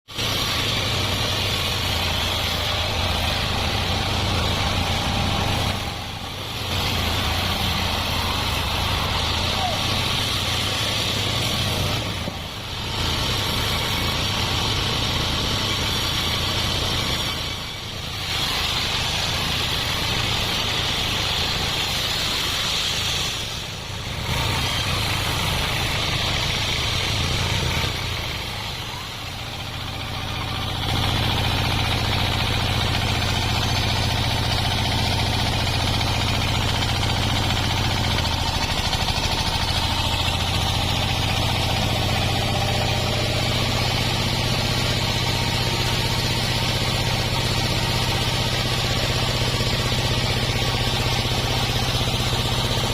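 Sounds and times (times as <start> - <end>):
sawmill machinery humming: 0.0 - 52.9
high hiss: 0.1 - 52.9.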